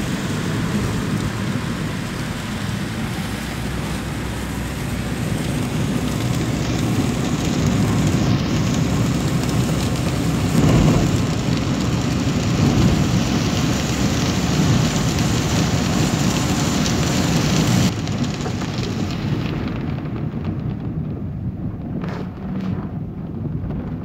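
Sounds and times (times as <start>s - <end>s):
rain and spray hissing: 0.0s - 24.0s
vehicle rumble: 0.0s - 24.0s.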